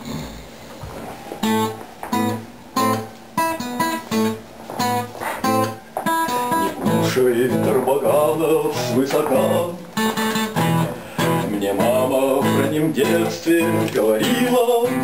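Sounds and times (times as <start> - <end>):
acoustic guitar strummed chords: 1.4 - 15.0.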